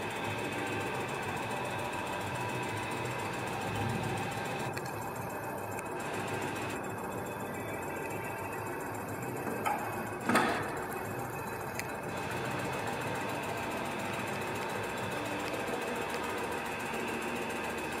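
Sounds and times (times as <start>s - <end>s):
machine rapid mechanical clatter: 0.0s - 18.0s.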